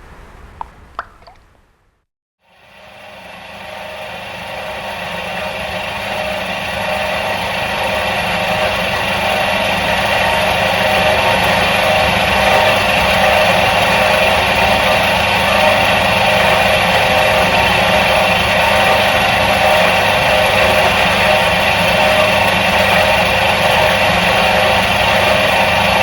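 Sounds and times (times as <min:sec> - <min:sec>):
washing machine motor humming: 0:03.0 - 0:26.0.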